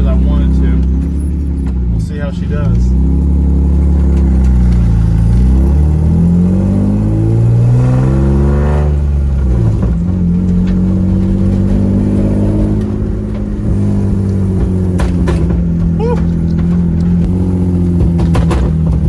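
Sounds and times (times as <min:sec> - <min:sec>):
car engine accelerating loudly: 0:00.0 - 0:19.0.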